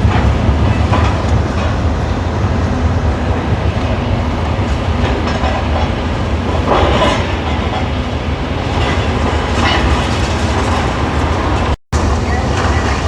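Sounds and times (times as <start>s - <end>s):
demolition machinery rumbling: 0.0s - 13.0s.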